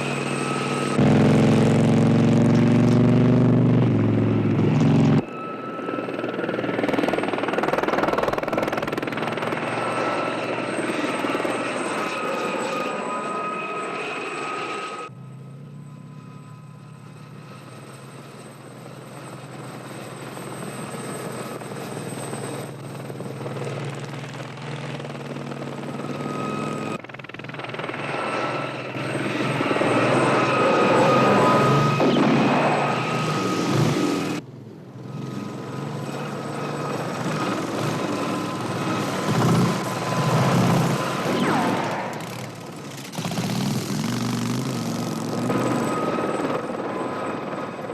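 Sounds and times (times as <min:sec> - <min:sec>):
helicopter rotor and turbine whine: 0:00.0 - 0:47.9.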